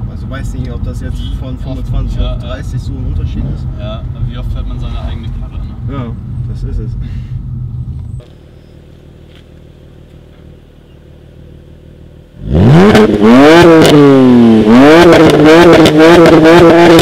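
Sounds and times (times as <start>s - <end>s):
car engine idling: 0.0s - 17.0s
car engine revving: 0.0s - 17.0s.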